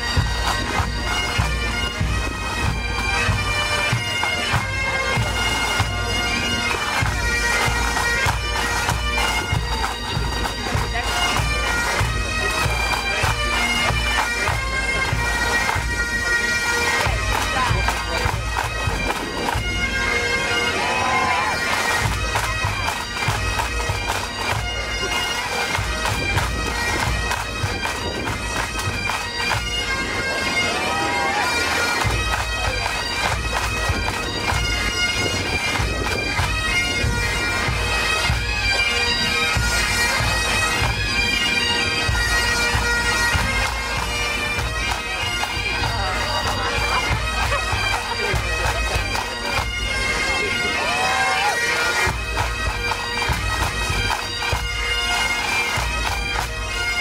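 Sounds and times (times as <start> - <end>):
pipe band playing: 0.0 - 57.0.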